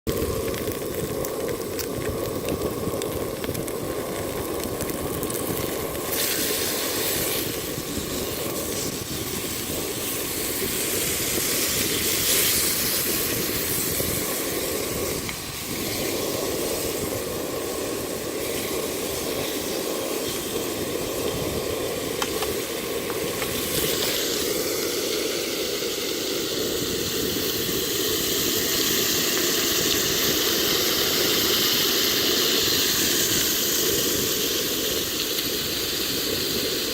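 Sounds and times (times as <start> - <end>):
pork sizzling on a grill: 0.1 - 36.9.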